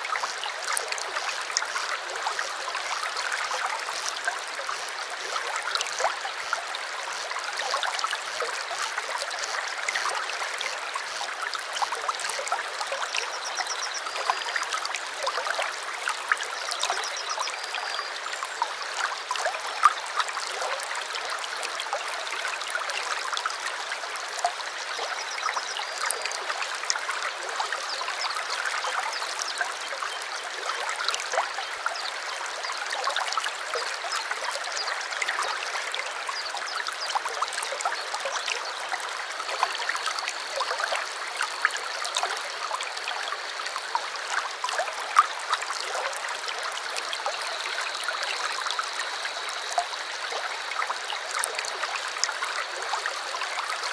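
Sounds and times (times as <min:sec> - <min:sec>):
stream babbling over stones: 0:00.0 - 0:53.9.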